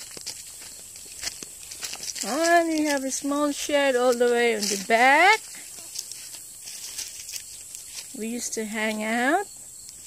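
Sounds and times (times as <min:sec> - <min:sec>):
footsteps crunching dry leaves: 0:00.0 - 0:09.3.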